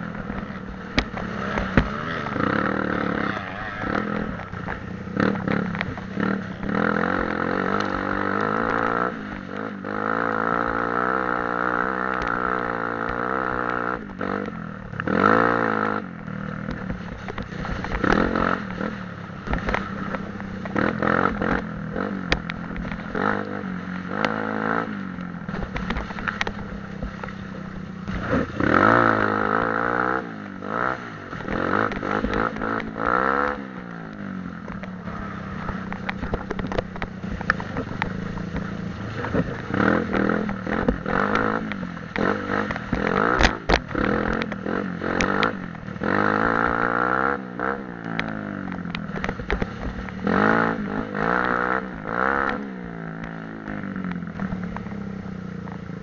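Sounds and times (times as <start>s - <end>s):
dirt bike engine revving: 0.0s - 55.0s
bike rattling and clattering: 0.0s - 56.0s.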